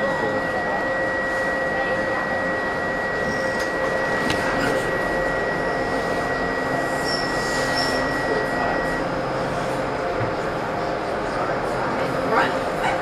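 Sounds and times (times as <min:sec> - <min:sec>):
high whine: 0:00.0 - 0:12.4
subway car equipment hum: 0:00.0 - 0:13.0.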